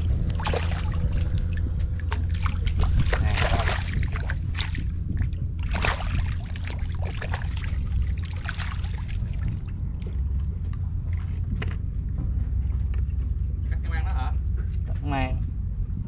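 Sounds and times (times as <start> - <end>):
water splashing and trickling: 0.0 - 13.2
steady low rumble: 0.0 - 16.0.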